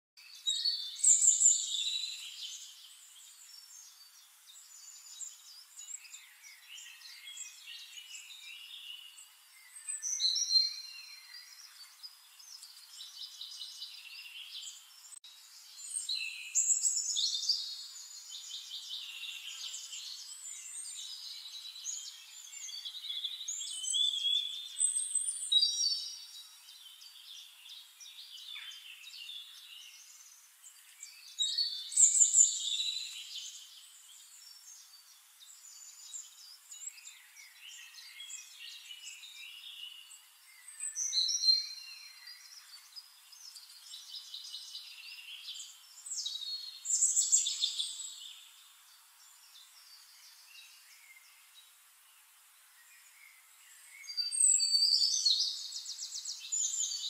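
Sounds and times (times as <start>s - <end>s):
birds singing chirps and trills: 0.2s - 57.0s.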